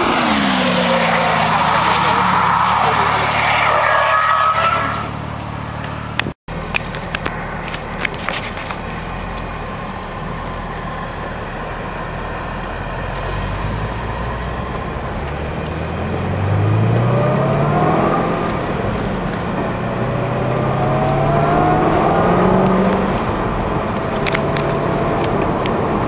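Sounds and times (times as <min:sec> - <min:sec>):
car engine cruising: 0:00.0 - 0:26.0
road noise: 0:00.0 - 0:26.0.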